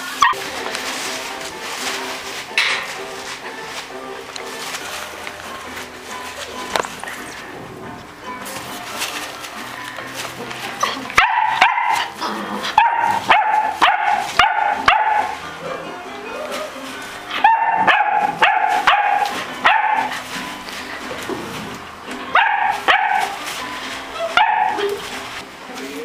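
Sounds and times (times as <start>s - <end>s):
puppies barking: 0.0s - 25.4s.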